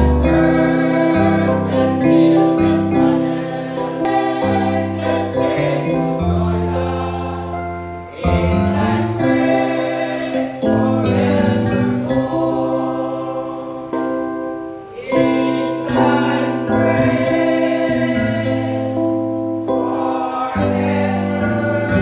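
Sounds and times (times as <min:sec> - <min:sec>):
choir singing church music: 0:00.0 - 0:22.0.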